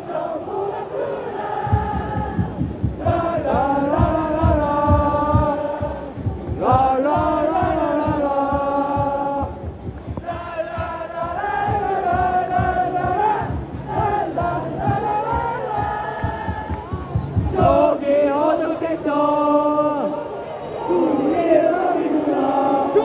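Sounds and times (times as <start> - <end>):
steady low beat: 0.0 - 19.5
crowd singing a chant: 0.0 - 23.0.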